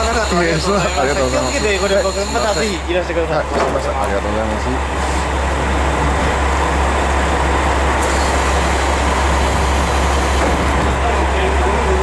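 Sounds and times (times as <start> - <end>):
diesel railcar engine idling: 0.0 - 12.0.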